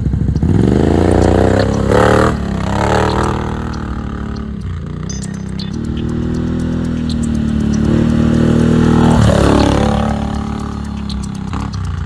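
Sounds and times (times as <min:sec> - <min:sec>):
quad bike engine passing by: 0:00.0 - 0:12.0.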